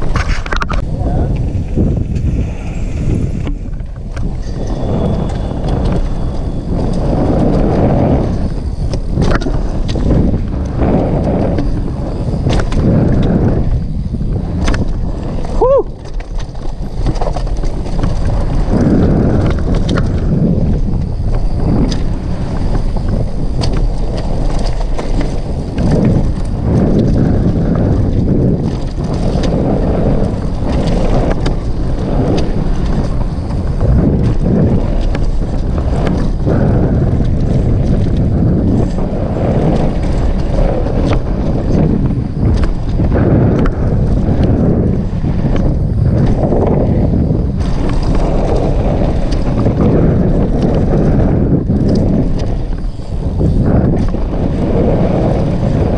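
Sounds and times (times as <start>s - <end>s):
bike clicking and rattling: 0.0s - 55.9s
tyres rolling over dirt: 0.0s - 55.9s
wind buffeting microphone: 0.0s - 55.9s.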